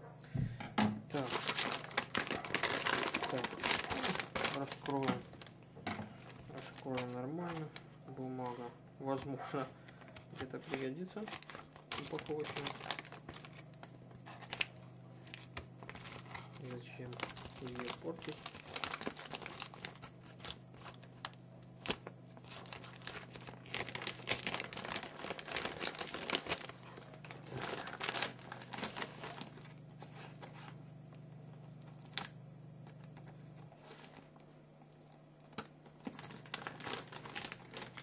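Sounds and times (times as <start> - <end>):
paper crinkling and rustling: 1.1 - 30.8, 31.4 - 38.0.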